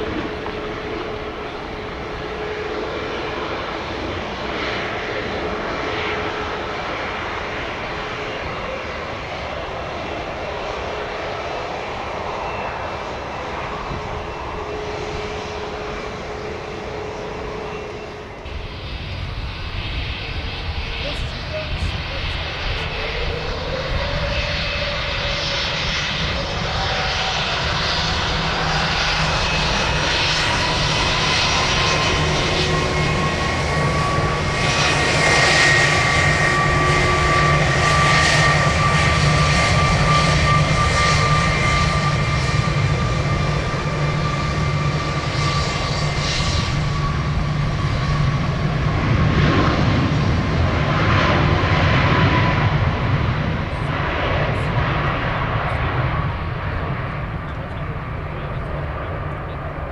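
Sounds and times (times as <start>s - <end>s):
jet engines rumbling and whining: 0.0s - 59.9s.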